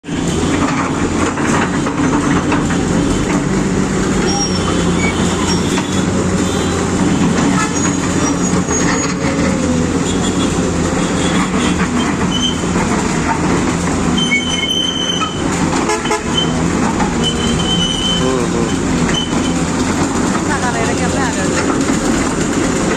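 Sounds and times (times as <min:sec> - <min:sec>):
heavy engine running: 0:00.0 - 0:22.9.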